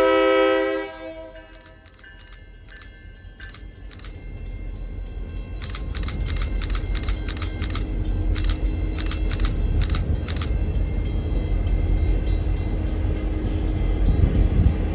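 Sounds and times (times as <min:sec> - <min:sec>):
diesel locomotive rumble: 0:00.0 - 0:14.9
train bell ringing: 0:00.0 - 0:14.9.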